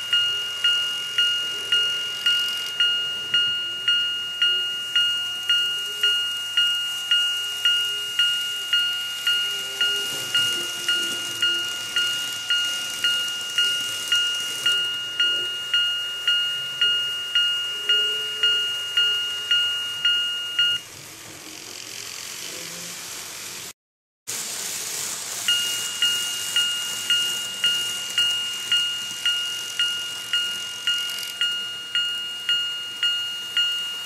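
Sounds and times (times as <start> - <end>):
two-tone electronic crossing bell: 0.0 - 20.9, 25.4 - 34.0.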